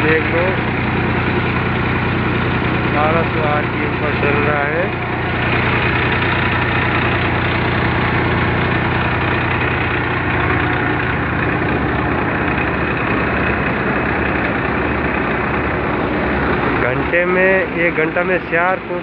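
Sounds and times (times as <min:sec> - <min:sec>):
thresher running: 0:00.0 - 0:19.0
tractor diesel engine running: 0:00.0 - 0:19.0.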